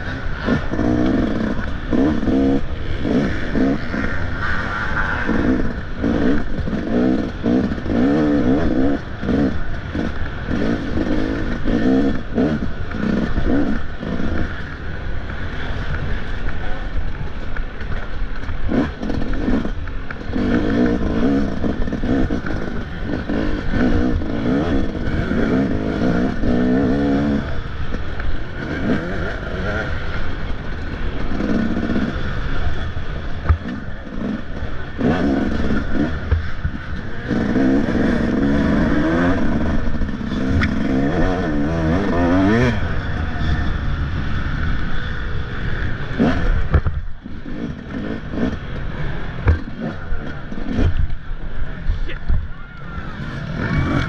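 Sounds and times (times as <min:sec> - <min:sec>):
dirt bike engine revving: 0:00.0 - 0:16.4, 0:18.6 - 0:54.0.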